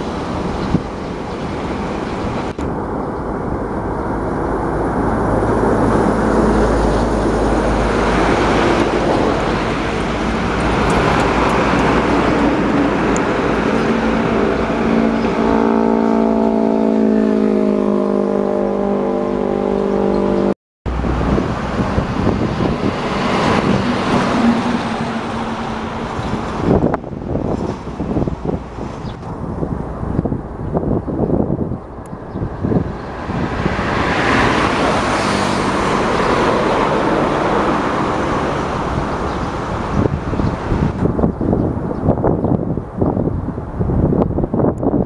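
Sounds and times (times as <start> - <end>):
truck passing: 0.0 - 44.7
diesel engine drone: 0.0 - 45.0
passing traffic: 0.0 - 45.0.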